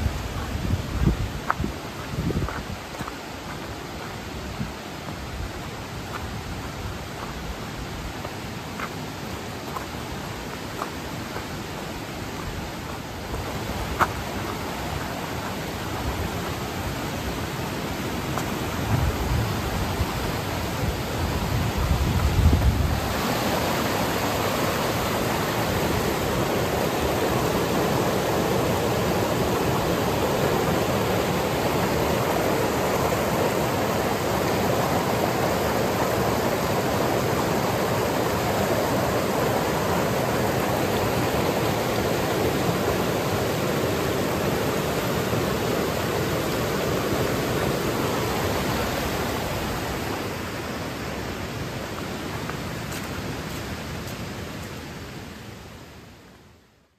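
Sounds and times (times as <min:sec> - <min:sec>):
river rushing over rocks: 0:00.0 - 0:56.6.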